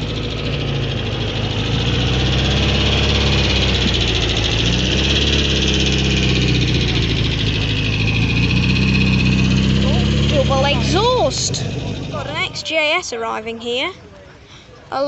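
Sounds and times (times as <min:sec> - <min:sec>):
car engine pulling away: 0:00.0 - 0:13.8.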